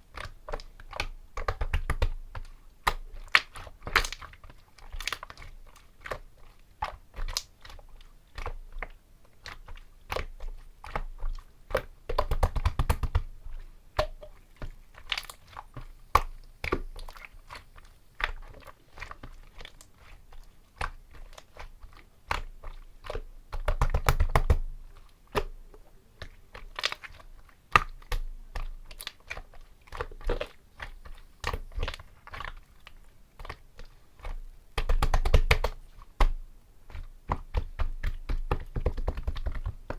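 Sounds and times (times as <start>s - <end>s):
slime rapid crackling: 0.1s - 25.6s, 26.2s - 39.9s.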